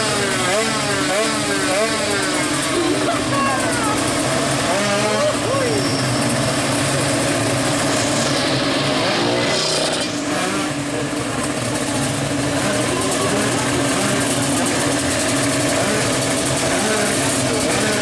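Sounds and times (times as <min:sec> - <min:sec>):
engine revving: 0:00.0 - 0:18.0
motorcycle engines running: 0:00.0 - 0:18.0.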